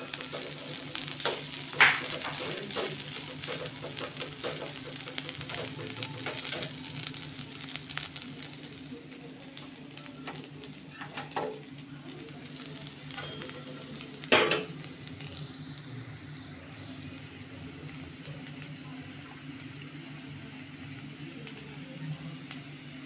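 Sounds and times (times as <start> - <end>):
potatoes sizzling in pan: 0.0 - 23.0.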